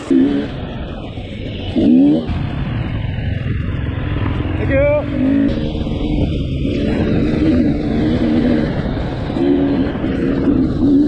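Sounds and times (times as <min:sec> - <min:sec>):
dirt bike engine revving: 0:00.0 - 0:11.0
steady low rumble: 0:00.0 - 0:11.0.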